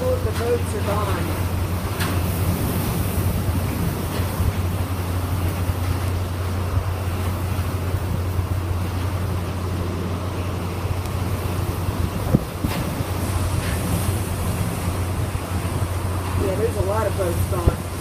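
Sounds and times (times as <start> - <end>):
hiss of wind-driven rain: 0.0 - 18.0
wind buffeting microphone: 0.0 - 18.0.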